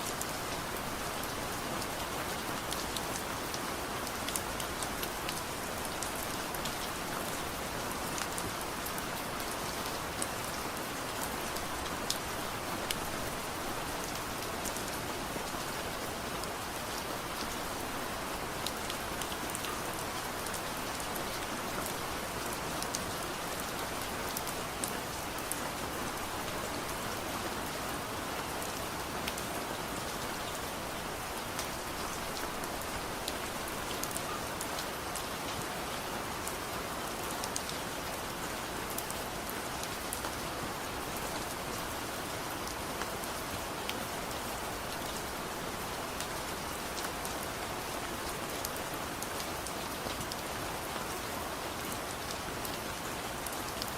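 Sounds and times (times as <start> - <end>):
soft rain falling: 0.0 - 53.9.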